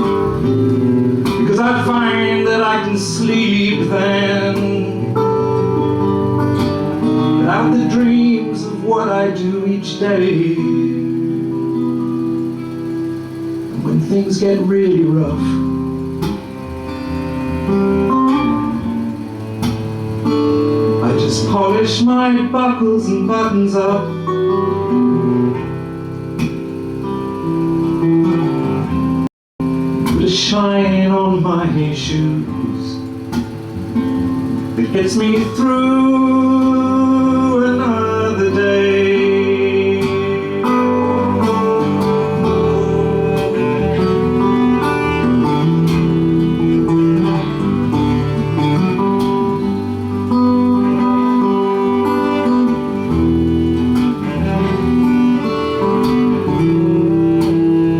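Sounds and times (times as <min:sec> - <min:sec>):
acoustic guitar playing: 0:00.0 - 0:57.9.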